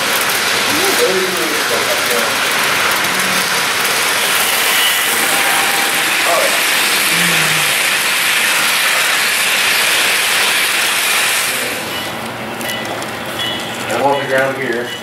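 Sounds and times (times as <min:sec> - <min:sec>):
model train wheels rolling: 0:00.0 - 0:15.0
train cars rattling: 0:00.0 - 0:15.0.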